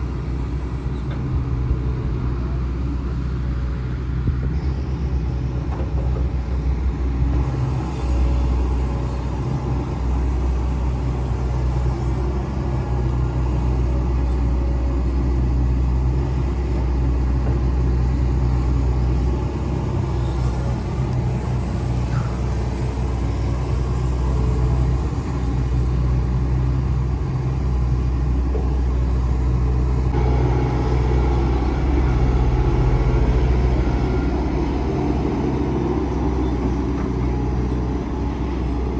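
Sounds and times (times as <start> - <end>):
excavator diesel engine rumbling: 0.0 - 38.9.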